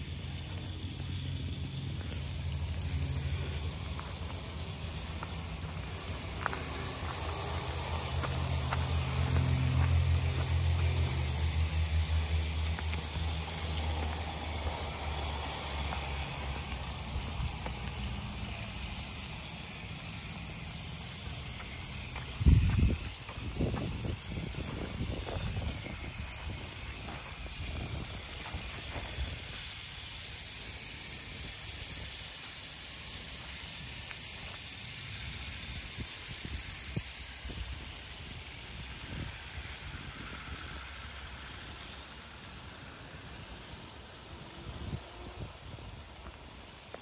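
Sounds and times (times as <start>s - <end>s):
toy trains whirring on track: 0.0s - 47.0s.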